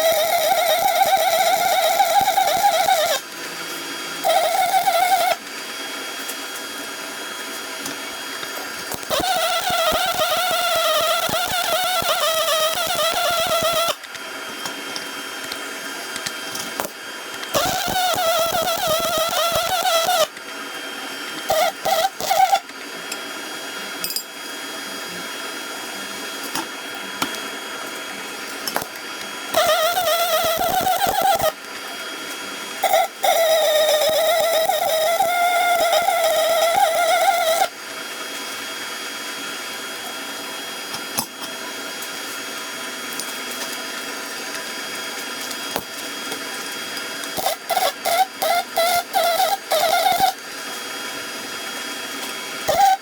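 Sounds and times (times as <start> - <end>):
welding arc buzzing: 0.0 - 24.4, 26.0 - 37.8, 45.1 - 50.8, 52.2 - 53.0.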